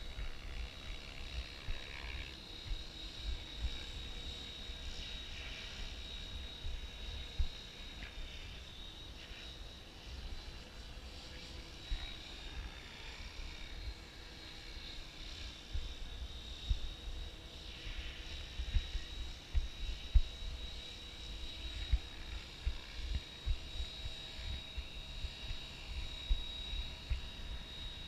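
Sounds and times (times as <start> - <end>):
distant rc helicopter whine: 0.0 - 28.0.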